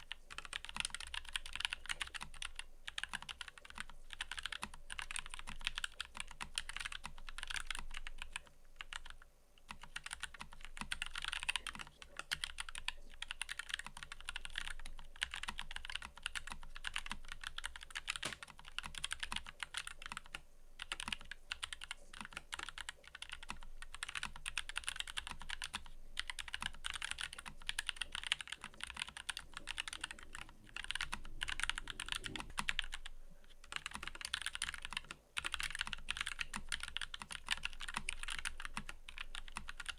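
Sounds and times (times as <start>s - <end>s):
mechanical keyboard typing: 0.1s - 39.9s.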